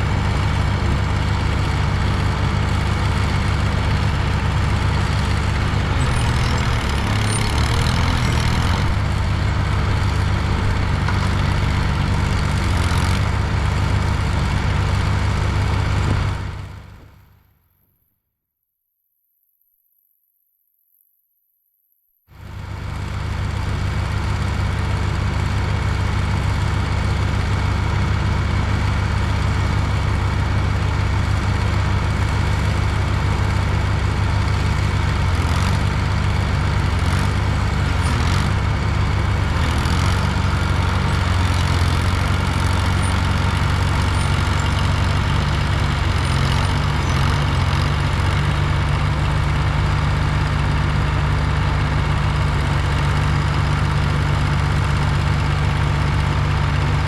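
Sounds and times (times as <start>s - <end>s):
construction machine engine running: 0.0s - 17.4s, 22.4s - 57.0s.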